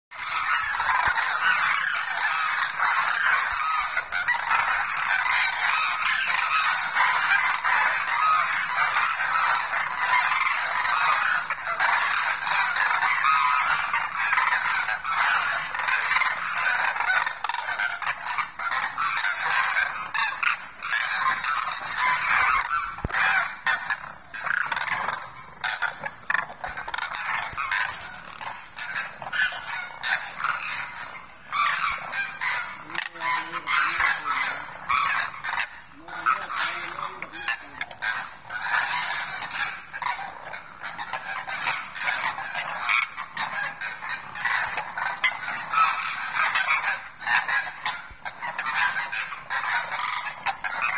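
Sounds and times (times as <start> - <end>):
cranes honking: 0.1 - 50.9.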